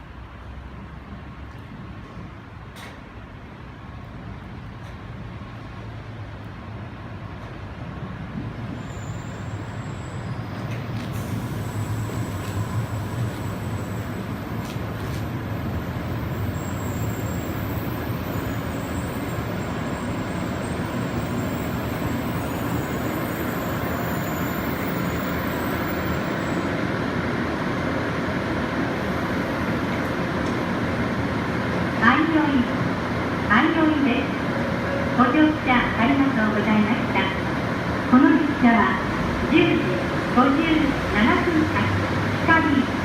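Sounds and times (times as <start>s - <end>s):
train deep rumble with hiss: 0.0s - 34.6s.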